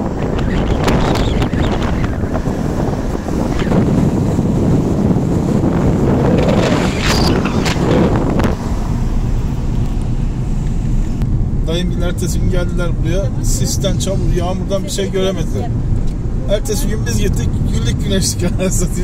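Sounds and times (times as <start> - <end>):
car road noise: 0.0 - 19.0
wind buffeting microphone: 0.0 - 19.0.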